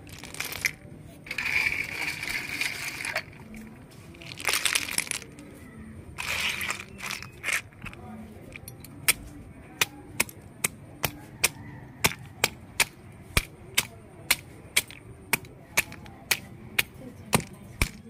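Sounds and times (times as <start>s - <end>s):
stone cracking snail shells: 0.0s - 5.5s, 6.2s - 18.0s.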